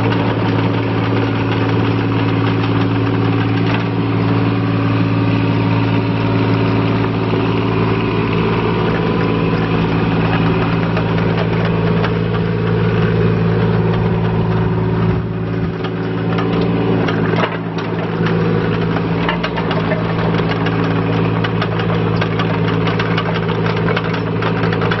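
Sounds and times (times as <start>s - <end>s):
clatter of excavator tracks: 0.0s - 25.0s
small diesel engine running: 0.0s - 25.0s.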